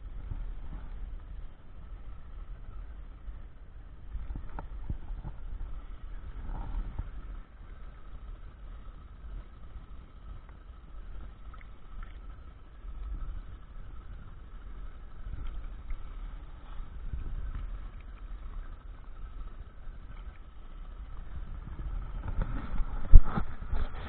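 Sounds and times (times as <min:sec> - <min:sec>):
water splashing against boat: 0:00.0 - 0:24.0
wind rumble on microphone: 0:00.0 - 0:24.0.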